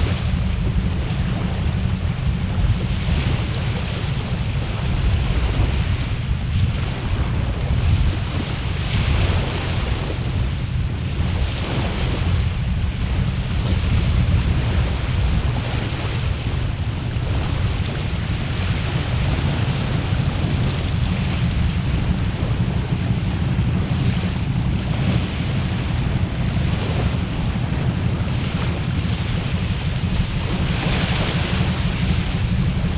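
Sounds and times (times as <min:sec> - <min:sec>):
thin high whine: 0:00.0 - 0:32.9
wind buffeting microphone: 0:00.0 - 0:32.9.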